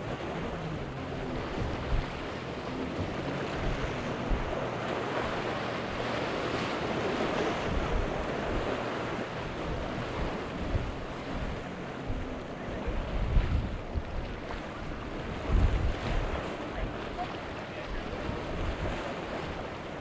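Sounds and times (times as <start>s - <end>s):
faint engine hum: 0.0s - 20.0s
water and spray rushing: 0.0s - 20.0s
wind buffeting microphone: 0.0s - 20.0s.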